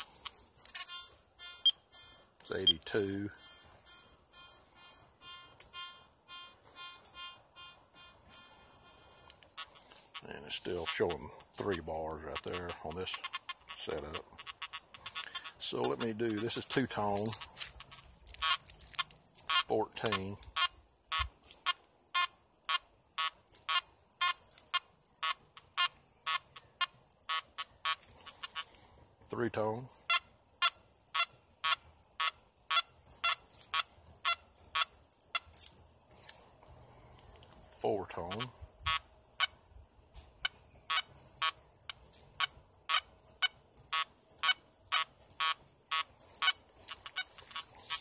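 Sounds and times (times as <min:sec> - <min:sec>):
metal detector beeps: 0:00.0 - 0:28.8, 0:29.5 - 0:35.5, 0:37.7 - 0:39.6, 0:40.4 - 0:48.0.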